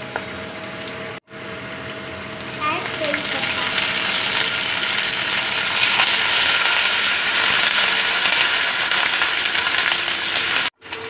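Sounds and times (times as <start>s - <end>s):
garlic sizzling in hot oil: 1.8s - 10.8s.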